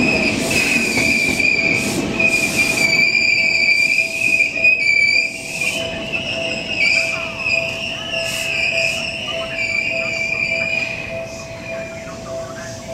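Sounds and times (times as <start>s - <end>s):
train brakes squealing: 0.0s - 12.9s.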